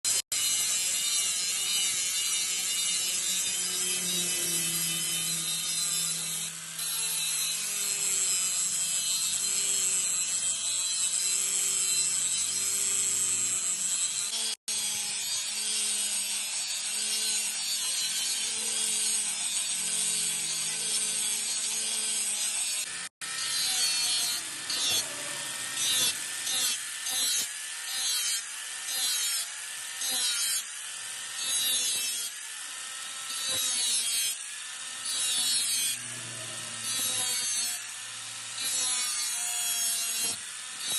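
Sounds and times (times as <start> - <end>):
power grinder grinding steel: 0.1 - 40.9.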